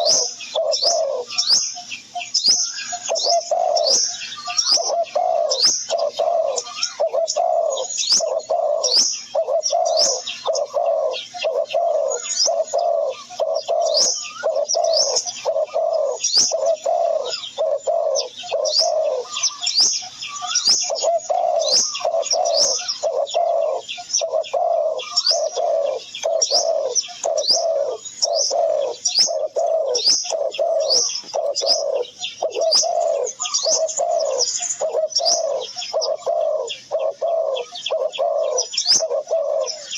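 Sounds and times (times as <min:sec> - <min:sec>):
low cooing: 0:00.0 - 0:01.4, 0:02.8 - 0:19.7, 0:20.4 - 0:39.9
small birds chirping: 0:00.0 - 0:39.9.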